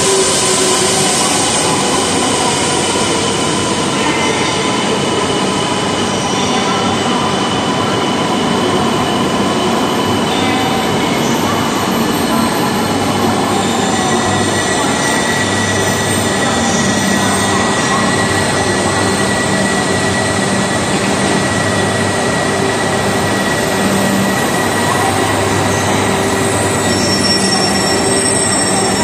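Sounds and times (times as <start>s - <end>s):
high squeal: 0.0s - 29.0s.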